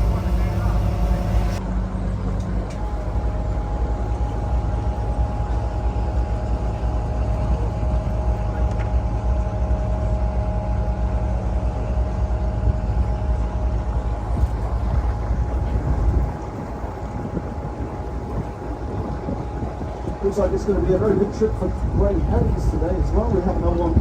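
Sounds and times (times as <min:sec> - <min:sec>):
boat engine rumbling: 0:00.0 - 0:24.0.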